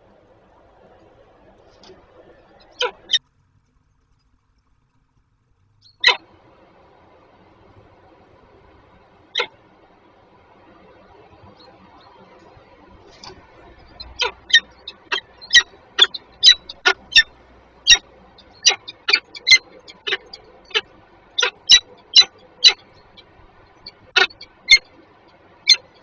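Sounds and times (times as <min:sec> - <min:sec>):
falcons calling: 0:00.0 - 0:03.2, 0:06.0 - 0:26.0.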